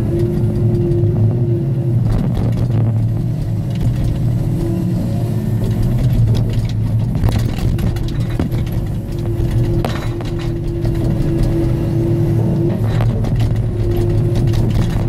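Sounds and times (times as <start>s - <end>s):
diesel engine running: 0.0s - 15.0s
high steady whine: 0.0s - 15.0s.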